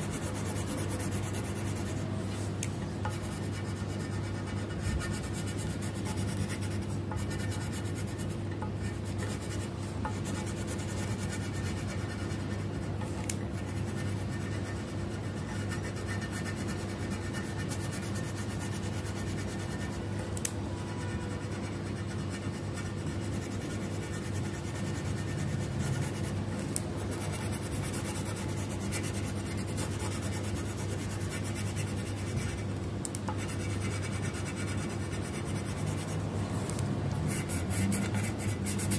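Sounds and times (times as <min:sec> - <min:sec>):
pencil scratching on paper: 0:00.0 - 0:20.0, 0:20.9 - 0:26.4, 0:27.1 - 0:32.7, 0:33.3 - 0:36.2, 0:37.3 - 0:38.9
steady low hum: 0:00.0 - 0:38.9.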